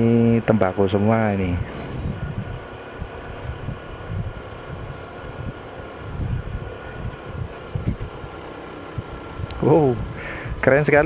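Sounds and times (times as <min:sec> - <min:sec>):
vehicle engine running: 0:00.0 - 0:11.0
wind buffeting microphone: 0:00.0 - 0:11.0.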